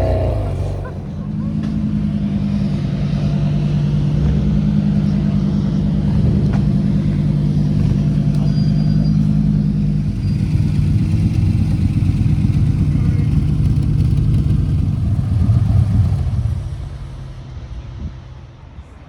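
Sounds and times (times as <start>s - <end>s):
car engine idling: 0.0s - 17.5s.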